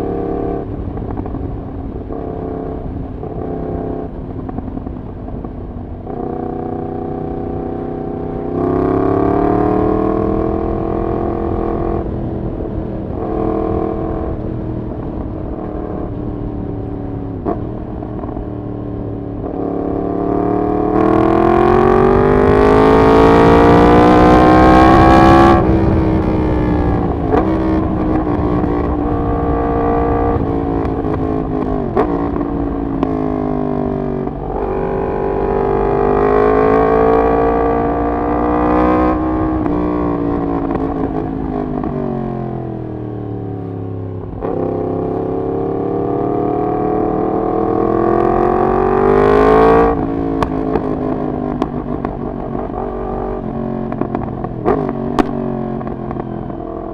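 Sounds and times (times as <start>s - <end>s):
motorcycle engine revving through gears: 0.0s - 56.9s.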